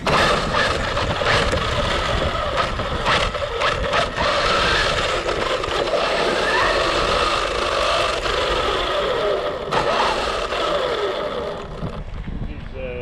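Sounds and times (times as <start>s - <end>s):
toy car motor whine: 0.0s - 12.1s
tyre and ground noise: 0.0s - 13.0s.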